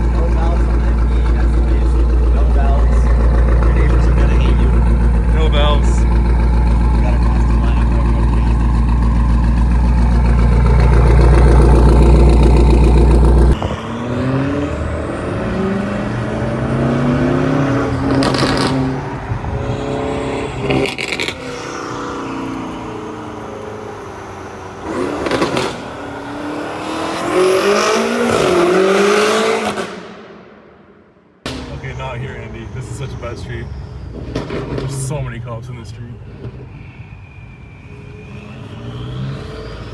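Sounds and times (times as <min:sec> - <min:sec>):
exhaust cracks: 0:00.0 - 0:26.5, 0:29.6 - 0:36.8
loud car engine revving: 0:00.0 - 0:37.0, 0:37.7 - 0:39.9.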